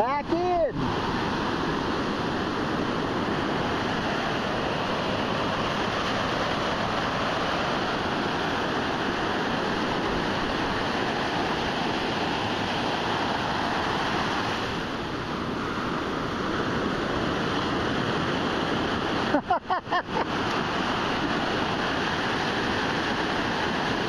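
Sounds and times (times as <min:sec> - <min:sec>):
ocean surf rushing on beach: 0:00.0 - 0:24.0.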